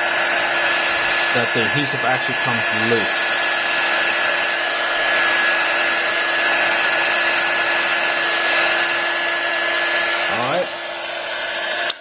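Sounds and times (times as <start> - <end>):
hot-air blower running: 0.0 - 12.0.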